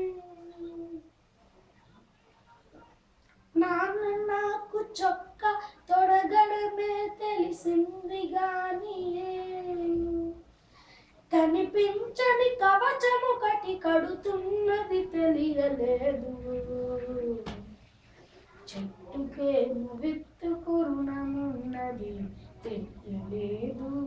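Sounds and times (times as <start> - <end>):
boy singing unaccompanied: 0.0 - 1.1, 3.5 - 10.5, 11.3 - 17.8, 18.7 - 24.0.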